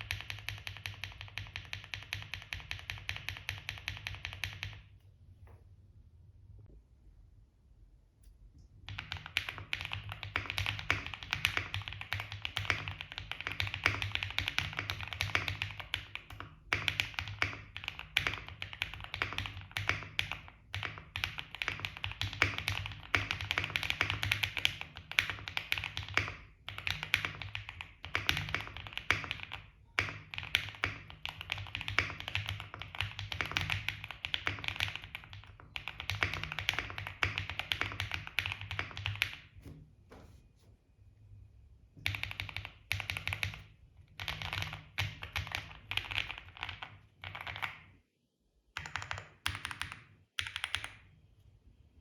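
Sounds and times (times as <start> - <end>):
keyboard typing: 0.0 - 4.9, 8.9 - 39.8, 42.0 - 47.9, 48.8 - 51.1.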